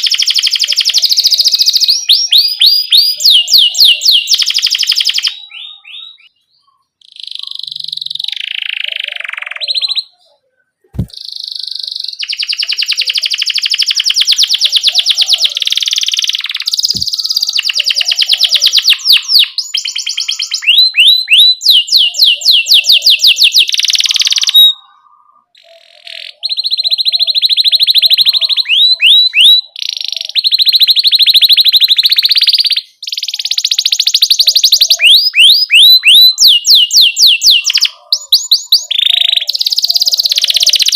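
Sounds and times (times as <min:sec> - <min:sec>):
canary singing trills and chirps: 0:00.0 - 0:40.9.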